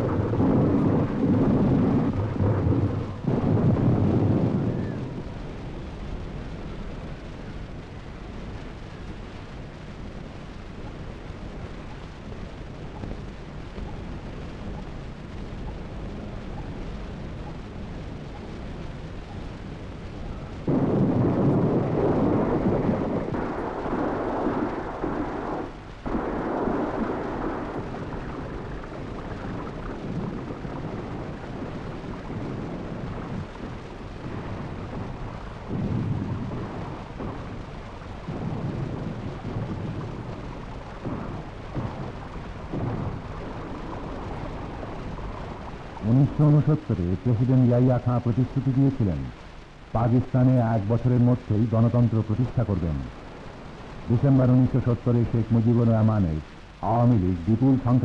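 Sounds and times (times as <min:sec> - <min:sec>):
muffled rumbling noise: 0:00.0 - 0:58.0.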